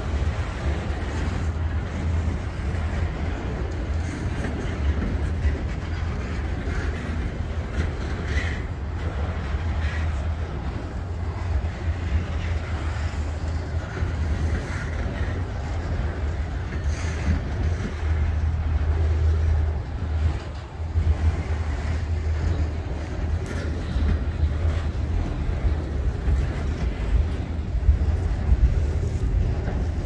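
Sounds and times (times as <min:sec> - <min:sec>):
train wheels rumbling on rail: 0:00.0 - 0:30.0
wind buffeting microphone: 0:00.0 - 0:30.0.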